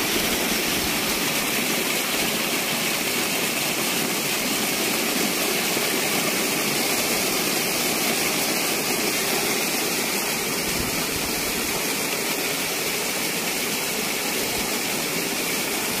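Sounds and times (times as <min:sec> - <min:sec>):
water gushing into basin: 0:00.0 - 0:16.0.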